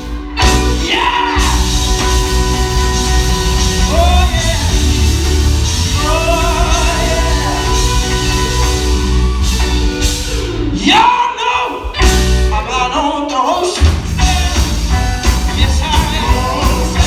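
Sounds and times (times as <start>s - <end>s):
live gospel band: 0.0s - 17.0s.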